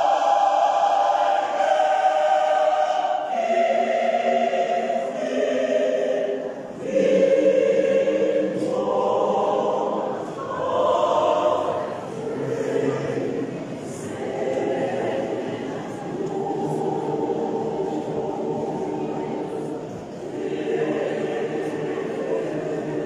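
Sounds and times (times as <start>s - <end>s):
choir singing in harmony: 0.0s - 23.0s.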